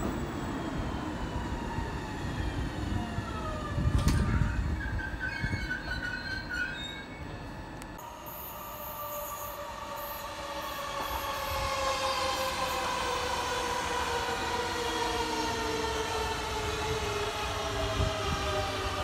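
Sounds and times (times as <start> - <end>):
electric train whine: 0.0 - 19.0
low rumble of train: 0.0 - 19.0.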